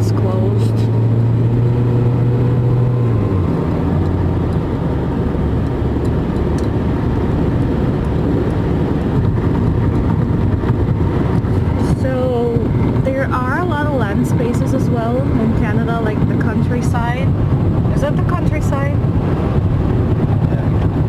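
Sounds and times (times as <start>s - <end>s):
car engine drone: 0.0s - 21.0s.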